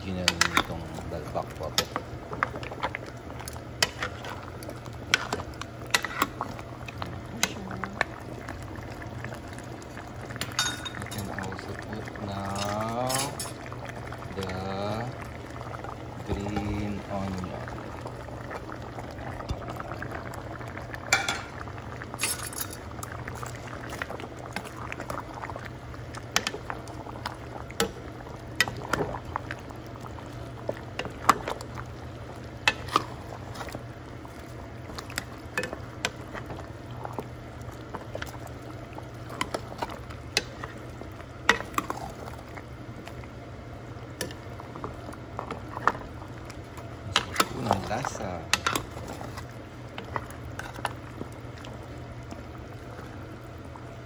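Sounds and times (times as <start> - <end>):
steady low hum: 0.0 - 54.0
stew bubbling in a pot: 0.0 - 54.0.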